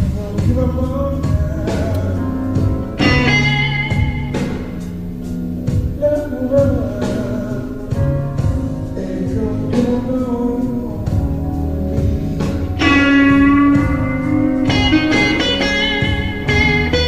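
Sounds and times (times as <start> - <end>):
bass: 0.0 - 17.0
drums: 0.0 - 17.0
electric blues guitar: 0.0 - 17.0.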